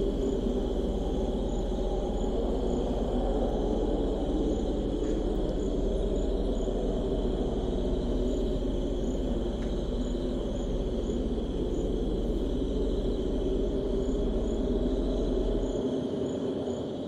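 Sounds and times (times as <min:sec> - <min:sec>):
crickets chirping: 0:00.0 - 0:17.0
low wind rumble: 0:00.0 - 0:17.0.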